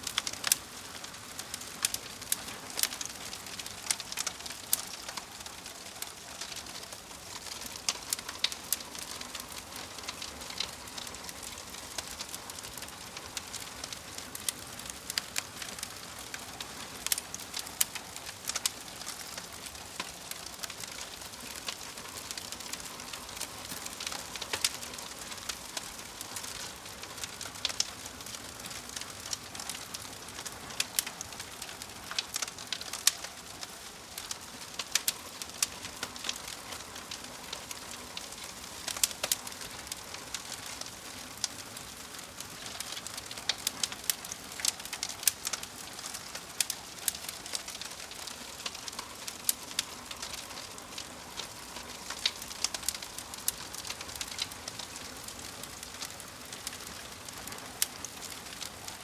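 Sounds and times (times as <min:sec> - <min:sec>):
soft steady hiss: 0:00.0 - 0:59.0
wood fire crackling: 0:00.0 - 0:59.0.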